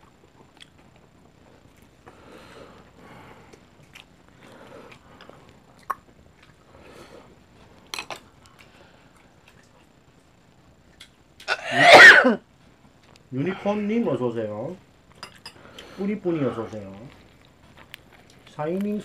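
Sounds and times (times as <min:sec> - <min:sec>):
soft chewing: 0:00.0 - 0:11.6, 0:12.5 - 0:13.3, 0:15.0 - 0:19.0.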